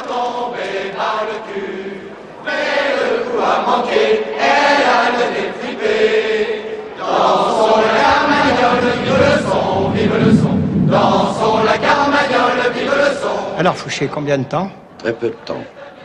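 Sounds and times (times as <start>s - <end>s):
crowd chanting in unison: 0.0s - 13.9s, 15.1s - 16.0s.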